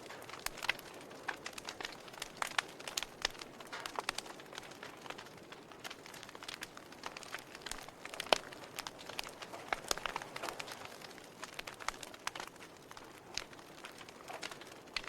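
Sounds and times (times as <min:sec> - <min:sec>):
sharp pops and snaps of fire: 0:00.0 - 0:15.0
wood fire crackling: 0:00.0 - 0:15.0.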